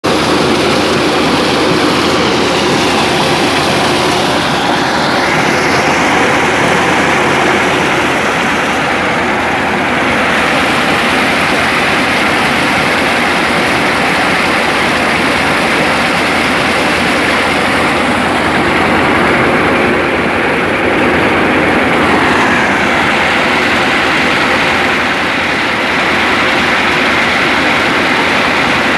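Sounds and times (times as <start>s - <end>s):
engine hum: 0.0s - 28.9s
threshing machine noise: 0.0s - 28.9s.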